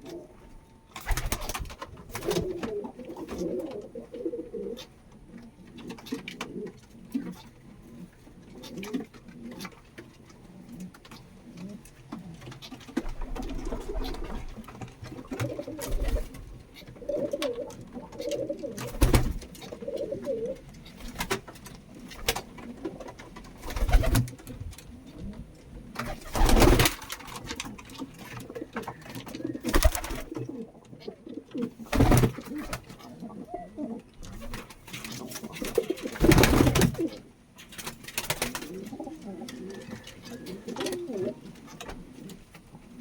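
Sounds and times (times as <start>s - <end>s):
pigeons cooing: 0.0s - 37.5s, 38.2s - 43.0s.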